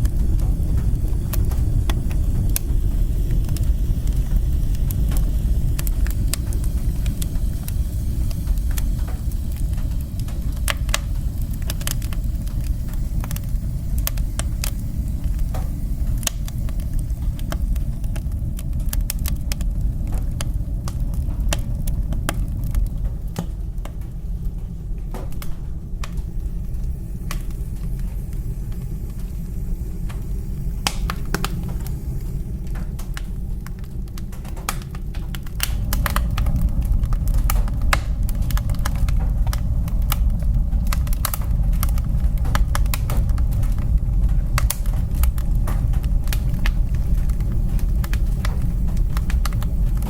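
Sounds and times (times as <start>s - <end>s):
fire crackling and popping: 0.0s - 50.0s
fire rumbling: 0.0s - 50.0s.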